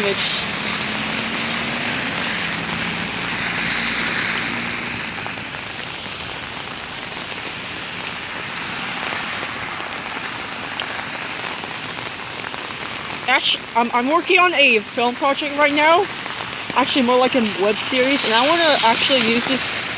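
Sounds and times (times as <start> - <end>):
heavy rain on pavement: 0.0 - 19.9.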